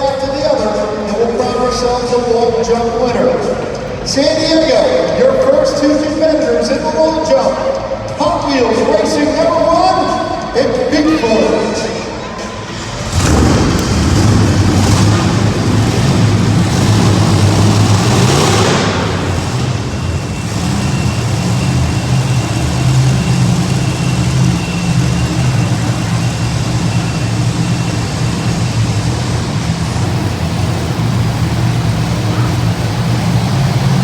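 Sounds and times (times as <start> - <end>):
broad rush of noise: 0.0 - 34.0
monster truck engines rumbling: 0.0 - 34.0.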